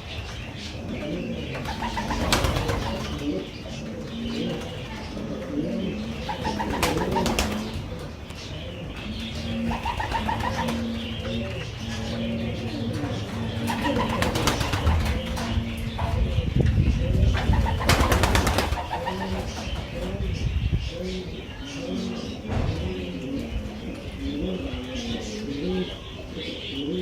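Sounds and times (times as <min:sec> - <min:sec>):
pigeons cooing: 0:00.0 - 0:27.0.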